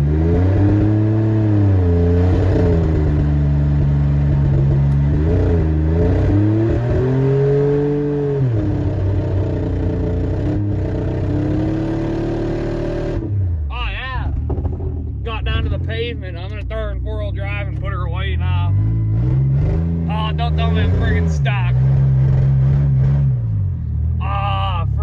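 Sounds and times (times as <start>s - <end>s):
pickup engine revving: 0.0s - 25.0s.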